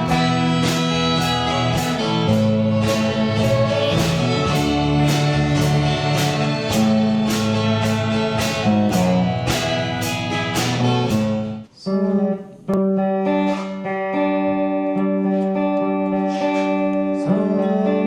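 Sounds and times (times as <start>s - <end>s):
strummed guitar chords: 0.0s - 18.0s.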